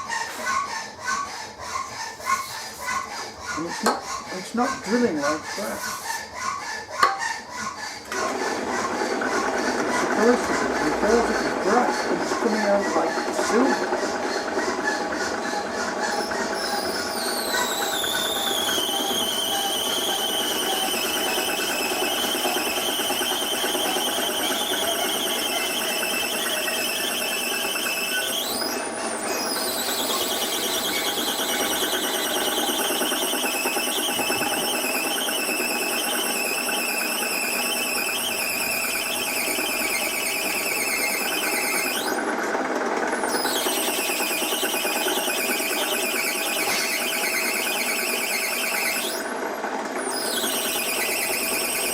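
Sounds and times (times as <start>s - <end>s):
drill bit squealing in metal: 0.0s - 8.0s, 10.0s - 42.2s, 43.2s - 49.4s, 50.0s - 51.9s.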